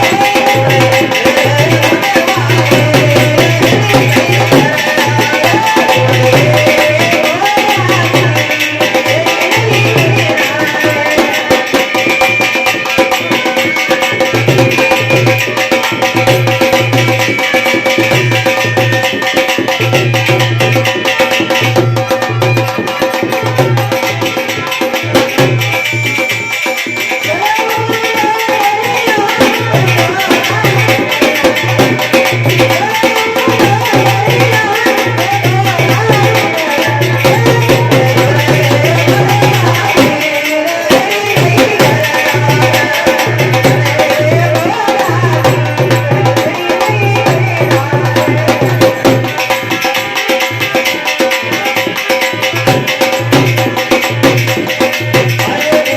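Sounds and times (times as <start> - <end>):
hand drum and rattle percussion: 0.0 - 55.9.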